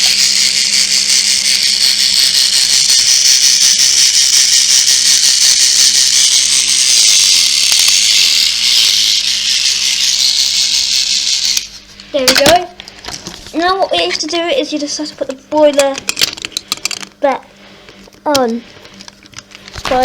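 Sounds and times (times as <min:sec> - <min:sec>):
toy train motor whirring: 0:00.0 - 0:17.1, 0:18.3 - 0:20.0.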